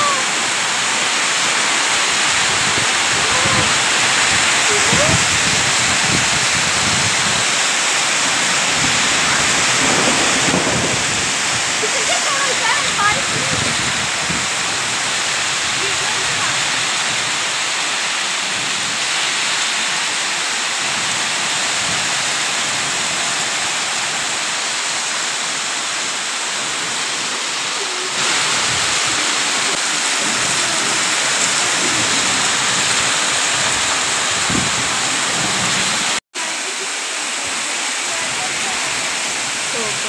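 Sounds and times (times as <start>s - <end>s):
torrential rain hissing: 0.0s - 40.0s
water streaming off roof: 0.0s - 40.0s.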